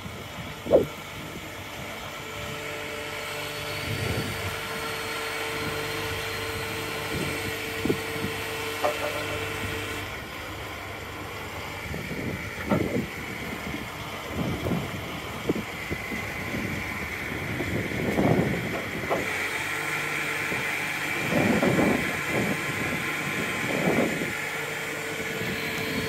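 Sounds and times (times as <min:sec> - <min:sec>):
hydraulic whine: 0:00.0 - 0:26.0
truck engine running: 0:00.0 - 0:26.0.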